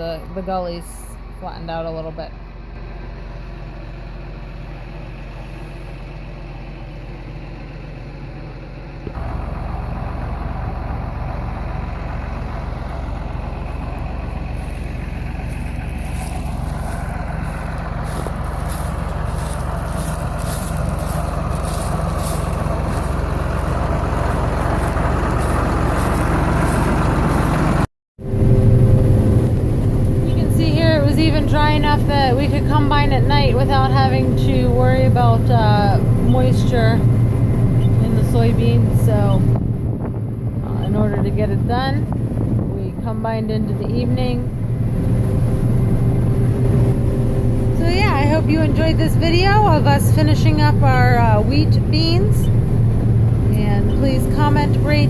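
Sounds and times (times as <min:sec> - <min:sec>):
diesel farm machinery running: 0:00.0 - 0:55.0.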